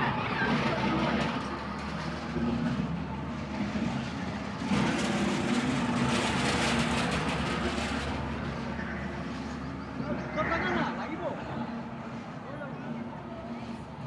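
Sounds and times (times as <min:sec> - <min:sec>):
train ride rumbling: 0:00.0 - 0:14.0.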